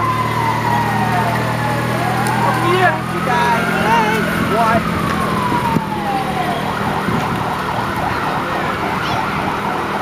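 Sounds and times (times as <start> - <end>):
emergency vehicle siren: 0.0 - 10.0.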